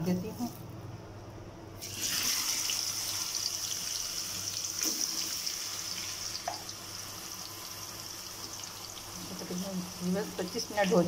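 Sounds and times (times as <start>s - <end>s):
chicken sizzling in hot oil: 1.8s - 11.0s.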